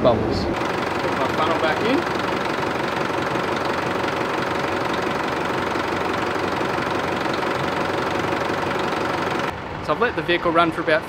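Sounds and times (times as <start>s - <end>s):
diesel engine idling: 0.5s - 11.0s.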